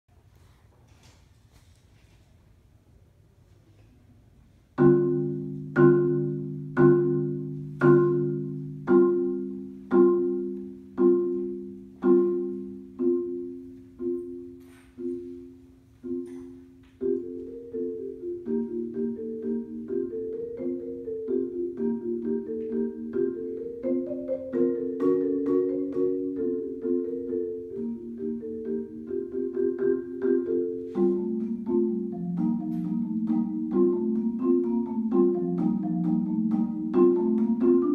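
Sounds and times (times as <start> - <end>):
solo marimba: 4.8 - 37.9.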